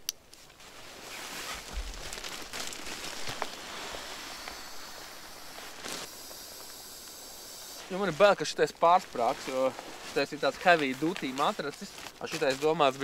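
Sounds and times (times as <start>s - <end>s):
tent fabric rustling: 0.3s - 6.2s, 7.7s - 13.0s
sleeping mat bag crinkling: 0.4s - 6.1s, 7.9s - 13.0s.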